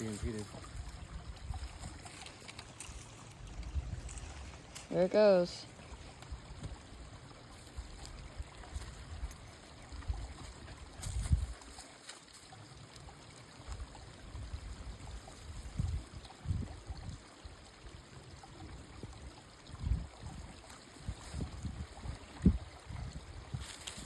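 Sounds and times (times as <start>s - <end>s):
creek trickling and pouring: 0.0s - 24.0s.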